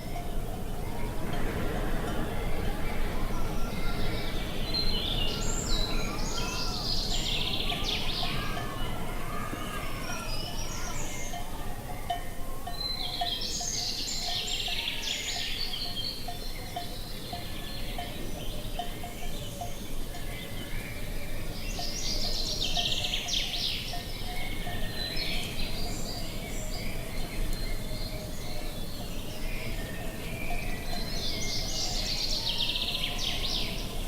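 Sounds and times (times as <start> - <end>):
low outdoor background noise: 0.0 - 34.0
songbirds singing: 0.0 - 34.0.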